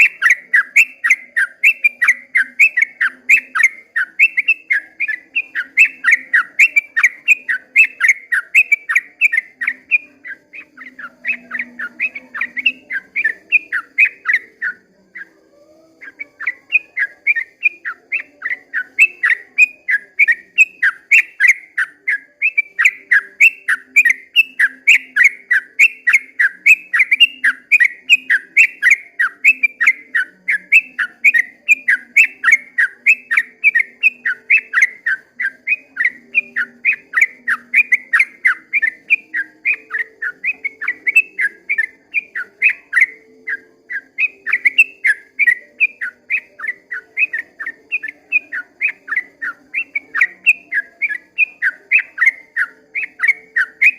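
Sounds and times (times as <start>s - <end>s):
bulbul singing rapid whistles: 0.0s - 53.9s.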